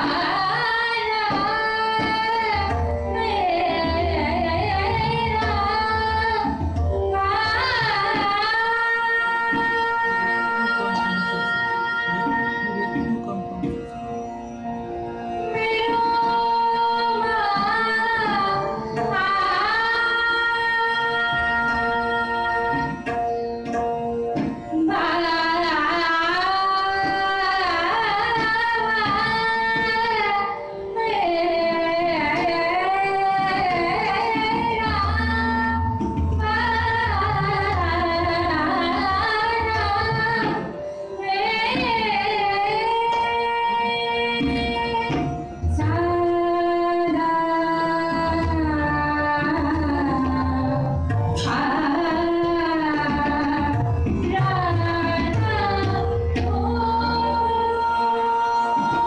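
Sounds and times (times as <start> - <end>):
woman singing classical style: 0.0 - 6.5, 15.5 - 22.9, 24.9 - 59.0
tabla playing: 0.0 - 59.0.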